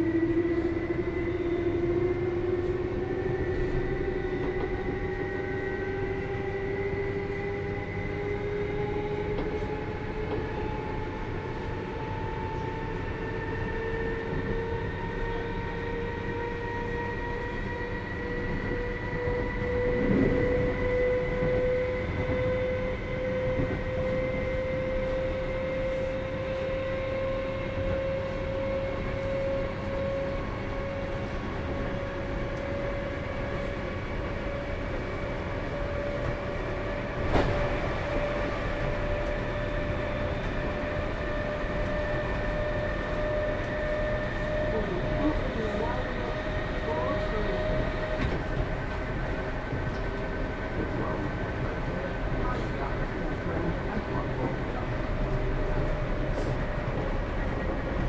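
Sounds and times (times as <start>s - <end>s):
wheels rumbling on track: 0.0s - 58.0s.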